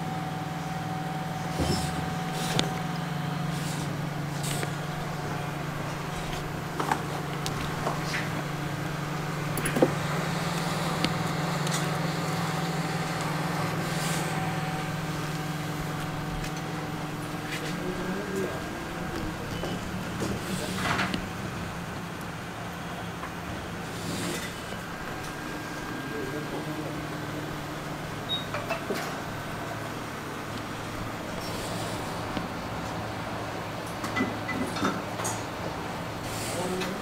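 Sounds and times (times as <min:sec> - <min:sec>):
equipment hum with faint whine: 0:00.0 - 0:37.0.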